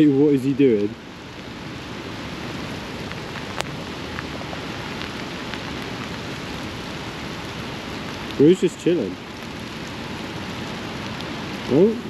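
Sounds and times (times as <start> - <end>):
rain falling: 0.0 - 12.0
raindrop ticks: 0.0 - 12.0.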